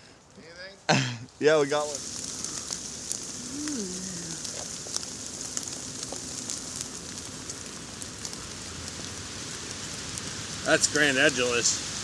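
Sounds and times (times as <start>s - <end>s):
pine needles and twigs crackling: 0.0s - 12.0s
steady hiss: 0.0s - 12.0s.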